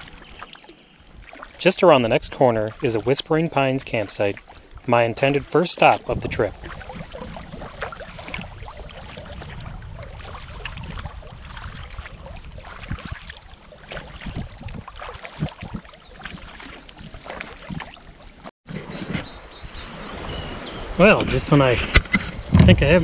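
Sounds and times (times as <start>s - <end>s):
low wash of water: 0.0s - 18.4s
paddle strokes splashing: 0.0s - 23.0s
wind: 0.0s - 23.0s.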